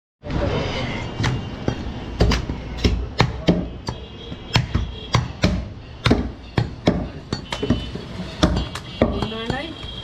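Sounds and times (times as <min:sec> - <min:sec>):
cleaver chopping meat: 0:01.2 - 0:09.7.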